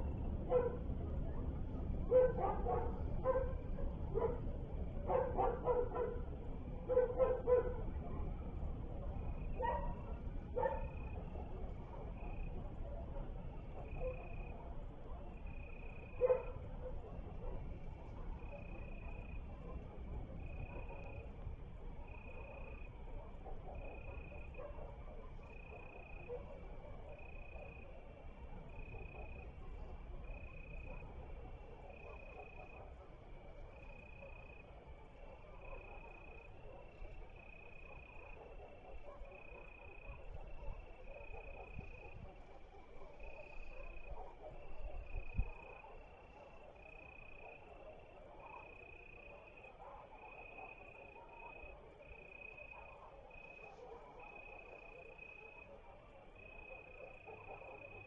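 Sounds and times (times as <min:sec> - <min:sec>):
crickets chirping: 0:00.0 - 0:58.0
low outdoor rumble: 0:00.0 - 0:58.0.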